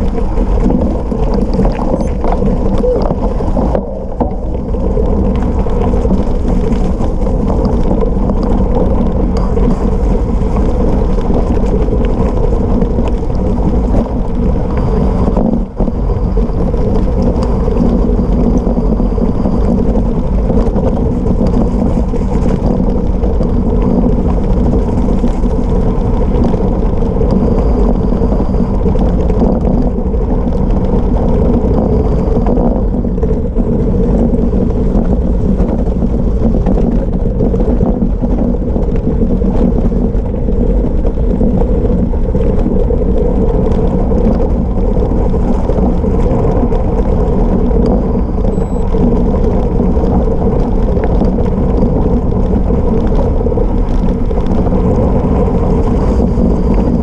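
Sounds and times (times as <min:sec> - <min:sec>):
bike tyres rumbling on gravel: 0:00.0 - 0:57.0.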